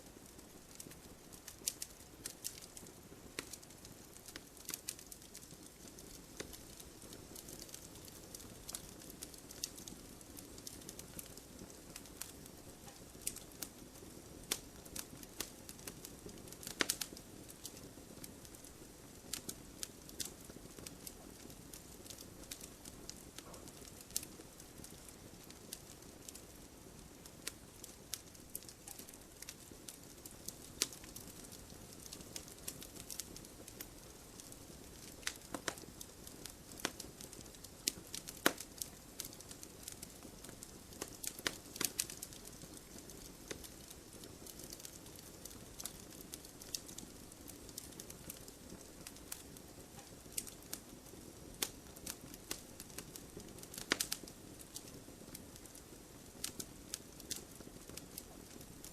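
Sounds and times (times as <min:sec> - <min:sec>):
wood crackling and popping: 0:00.0 - 0:58.9.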